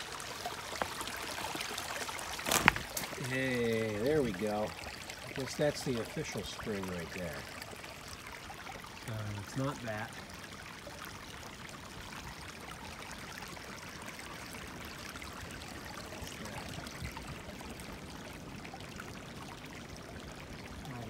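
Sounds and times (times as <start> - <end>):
water trickling over stones: 0.0 - 21.0.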